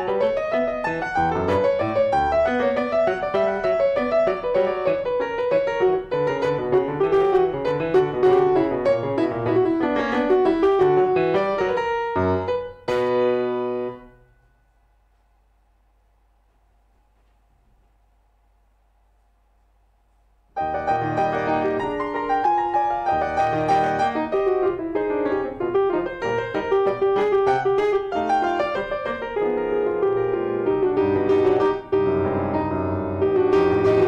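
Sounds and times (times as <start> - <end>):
classical piano playing: 0.0 - 14.5, 20.6 - 34.0.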